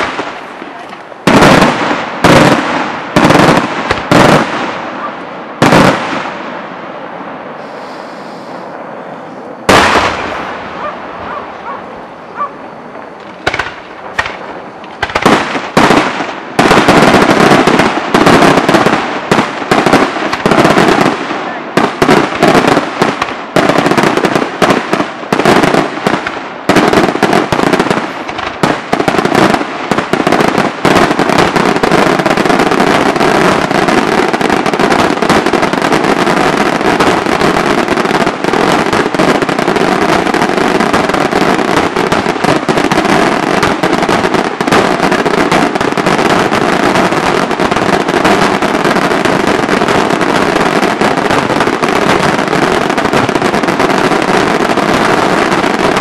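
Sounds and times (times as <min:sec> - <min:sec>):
fireworks bursting with bangs: 0:00.0 - 0:56.0.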